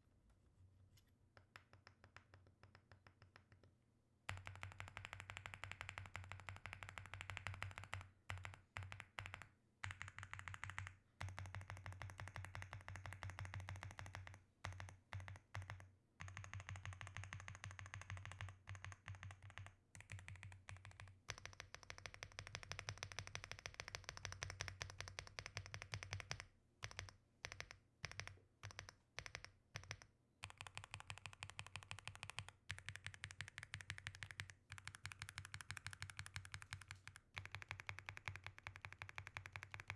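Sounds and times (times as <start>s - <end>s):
fast typing on mechanical keyboard: 4.3s - 39.9s.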